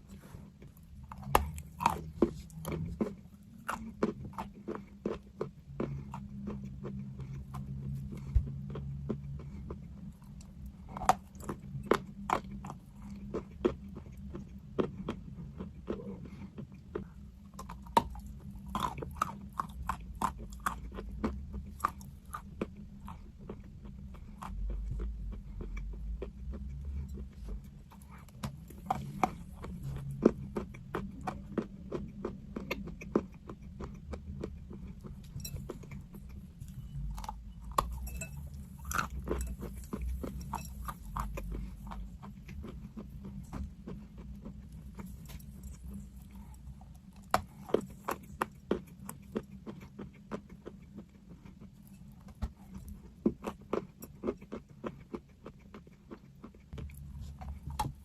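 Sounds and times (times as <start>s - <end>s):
person chewing crunchy chalk: 0.0s - 58.0s.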